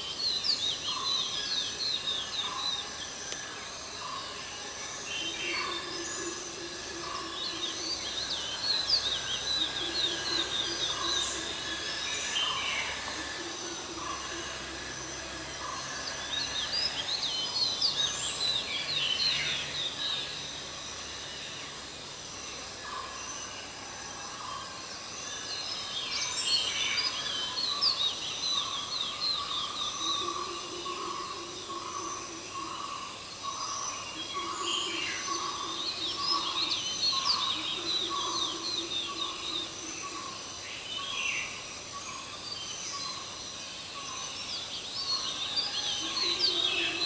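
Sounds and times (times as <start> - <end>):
outdoor background hum: 0.0 - 47.0.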